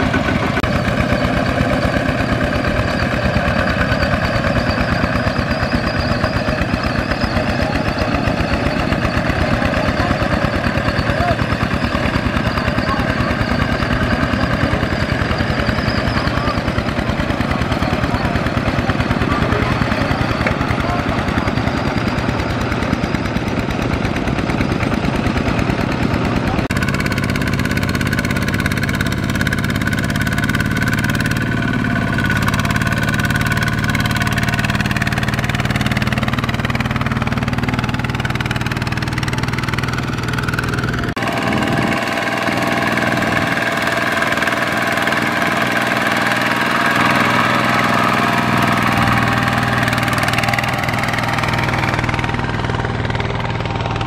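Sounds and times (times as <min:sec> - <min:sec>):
diesel tractor engine chugging: 0:00.0 - 0:54.0.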